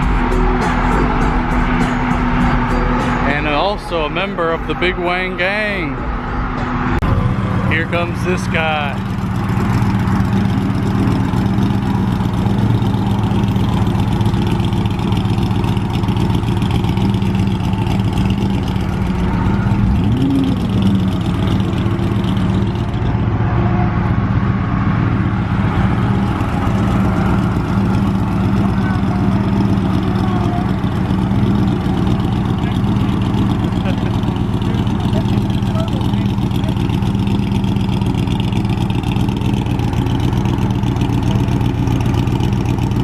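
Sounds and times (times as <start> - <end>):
car engine idling: 0.0 - 43.0
engine revving: 0.0 - 43.0.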